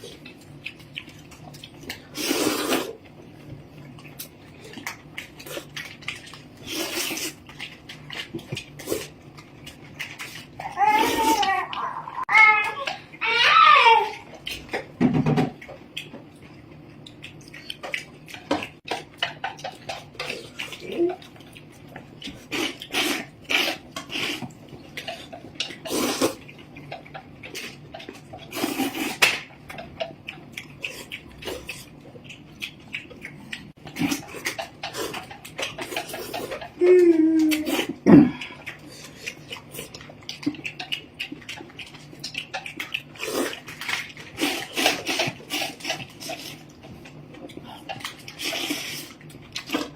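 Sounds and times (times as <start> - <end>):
noodles slurped and chewed: 0.0 - 13.4, 15.8 - 49.9.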